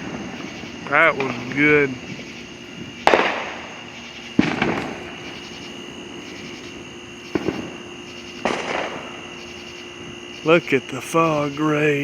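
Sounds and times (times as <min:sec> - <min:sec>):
fireworks banging: 0:00.0 - 0:12.0
fireworks crackling: 0:00.0 - 0:12.0.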